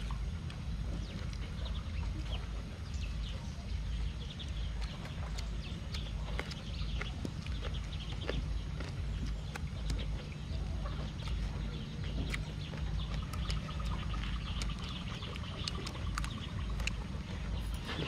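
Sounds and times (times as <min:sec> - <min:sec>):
crunching and chewing food: 0:00.0 - 0:18.0
steady low rumble: 0:00.0 - 0:18.0.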